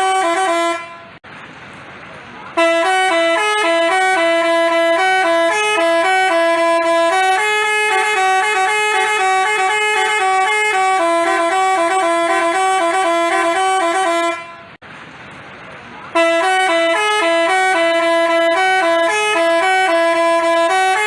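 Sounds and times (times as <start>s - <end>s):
bus horn playing a tune: 0.0s - 1.2s, 2.5s - 14.8s, 16.1s - 21.0s.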